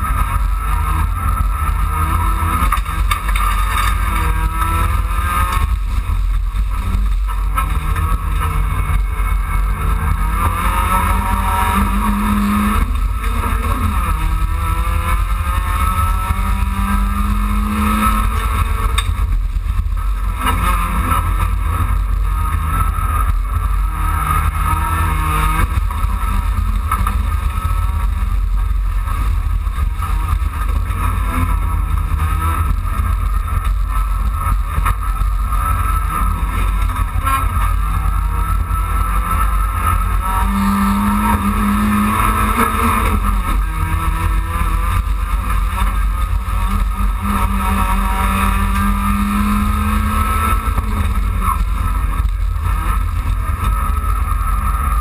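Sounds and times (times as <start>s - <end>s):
race car engine revving: 0.0s - 55.0s
road and cabin rumble: 0.0s - 55.0s.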